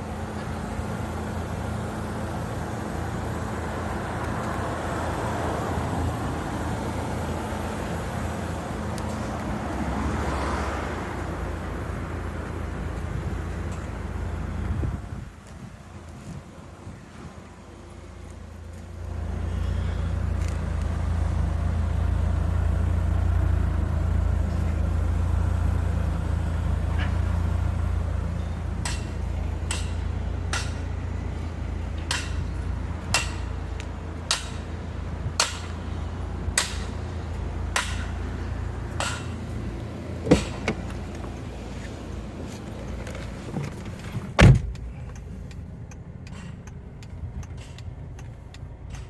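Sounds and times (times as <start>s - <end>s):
car road and engine rumble: 0.0s - 49.0s.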